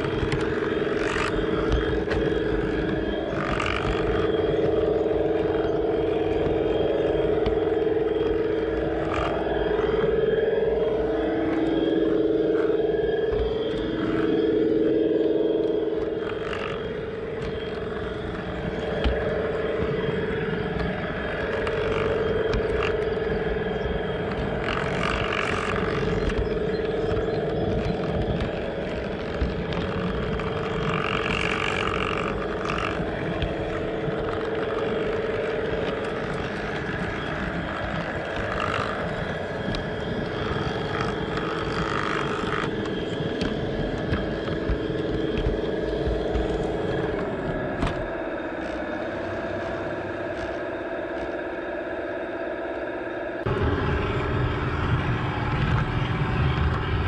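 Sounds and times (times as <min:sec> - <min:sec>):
wheels clicking on track: 0:00.0 - 0:51.7
model train motor whine: 0:00.0 - 0:57.0.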